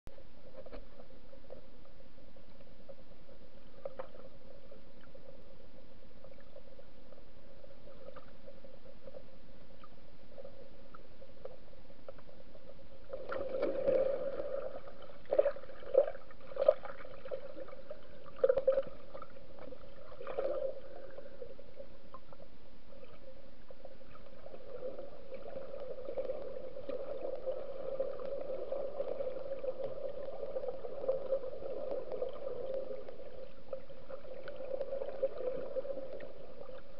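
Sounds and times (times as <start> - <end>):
rough fluctuating water noise: 0.1 - 36.9
steady low underwater hum: 0.1 - 36.9.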